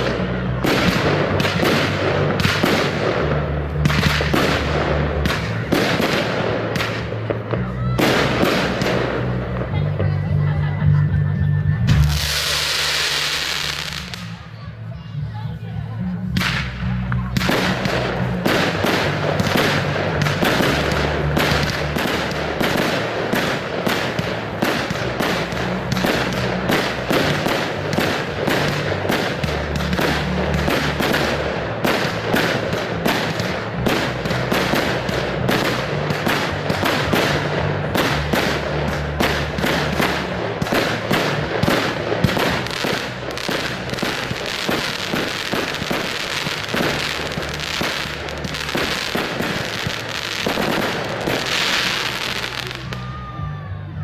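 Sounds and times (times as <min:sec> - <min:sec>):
fireworks bangs and crackles: 0:00.0 - 0:15.0, 0:16.2 - 0:54.0
music: 0:00.0 - 0:54.0.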